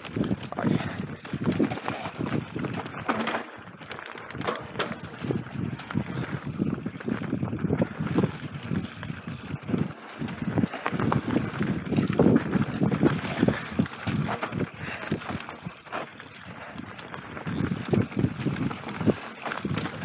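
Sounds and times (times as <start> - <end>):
bike rattling and clattering: 0.0 - 20.0
bike tyres rolling over dirt: 0.0 - 20.0
wind buffeting microphone: 0.0 - 20.0.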